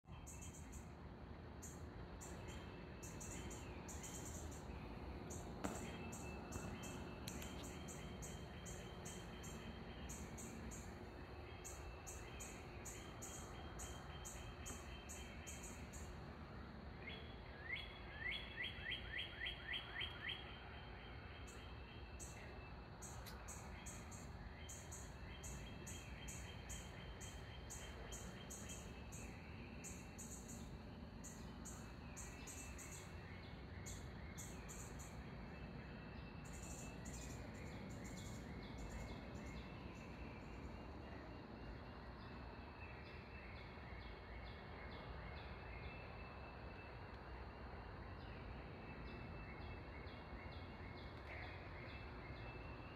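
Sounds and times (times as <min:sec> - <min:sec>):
faint outdoor background noise: 0:00.0 - 0:52.9
songbirds singing and chirping: 0:00.0 - 0:52.9.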